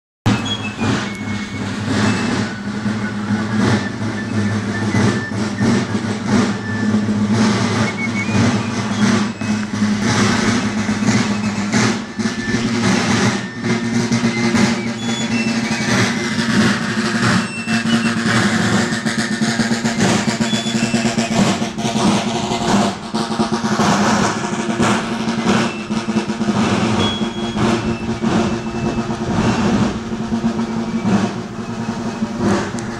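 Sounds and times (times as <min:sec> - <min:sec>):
snare drums march cadence: 0:00.3 - 0:32.9.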